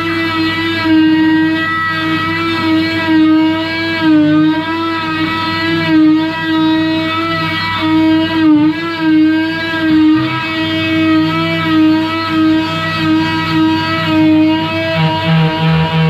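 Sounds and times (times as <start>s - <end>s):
oscillating tool whining: 0.0s - 16.0s.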